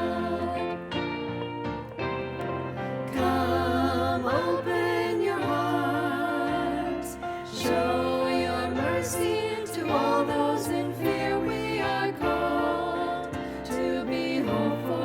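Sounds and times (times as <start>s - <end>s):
voices singing a slow hymn: 0.0s - 1.9s, 2.8s - 15.0s.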